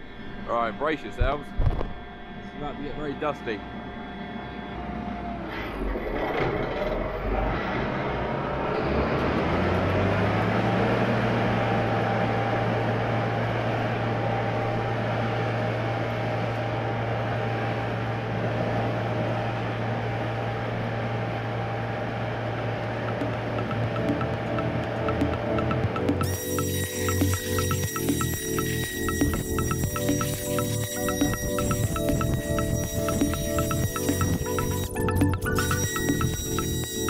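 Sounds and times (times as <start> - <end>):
combine harvester running: 2.4 - 37.0.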